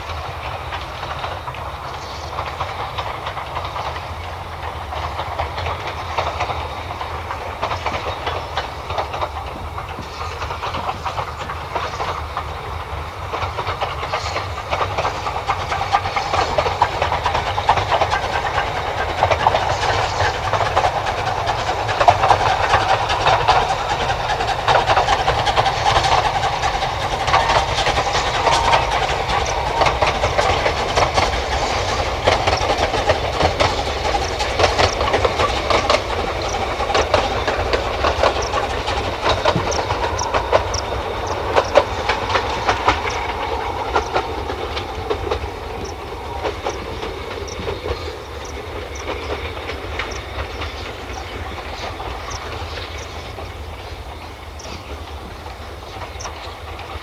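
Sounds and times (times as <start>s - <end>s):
steam train passing: 0.0s - 57.0s
train wheels clicking: 0.0s - 57.0s.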